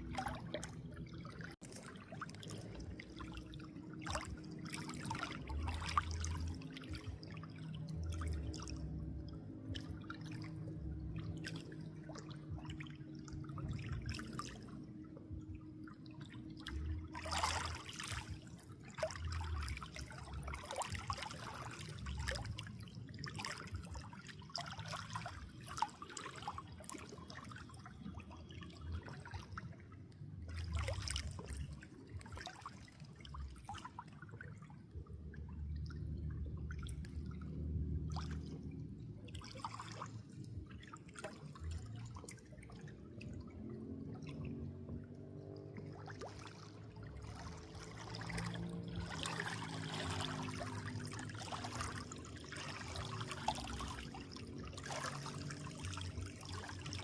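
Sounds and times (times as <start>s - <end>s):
water trickling and dripping: 0.0s - 57.0s.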